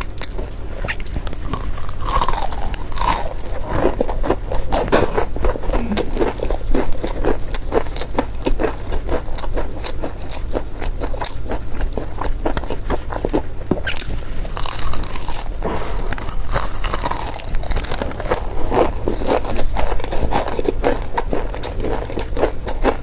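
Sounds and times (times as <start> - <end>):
crunching and chewing food: 0.0 - 23.0.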